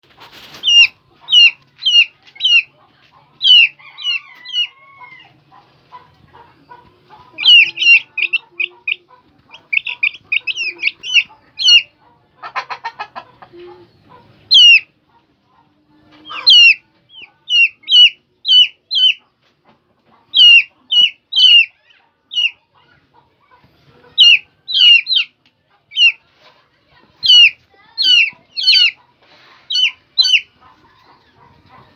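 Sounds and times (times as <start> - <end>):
chicks peeping: 0.0 - 31.9.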